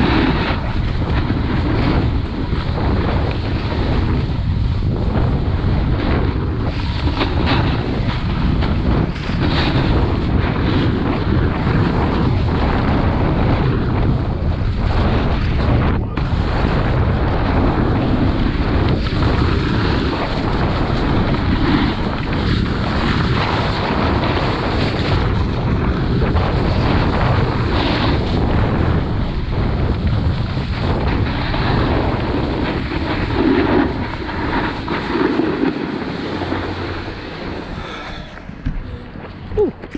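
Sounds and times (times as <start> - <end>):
snowboard scraping over snow: 0.0 - 39.9
wind rushing over microphone: 0.0 - 39.9.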